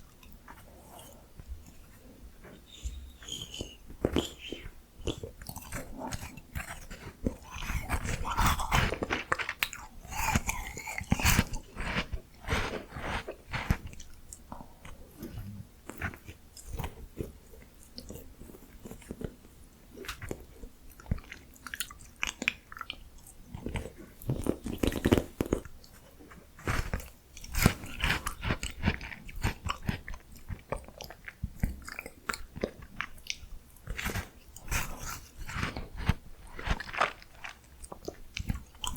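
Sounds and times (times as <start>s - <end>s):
person crunching ice cream: 0.0s - 38.9s.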